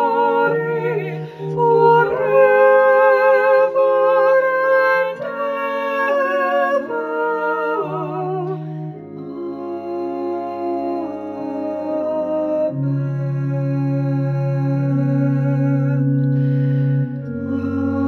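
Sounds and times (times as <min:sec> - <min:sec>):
voices singing sustained chords: 0:00.0 - 0:18.0.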